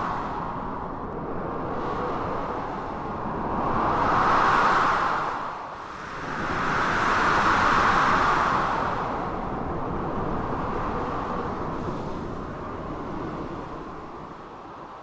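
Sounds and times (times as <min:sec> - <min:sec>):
blizzard wind: 0:00.0 - 0:15.0.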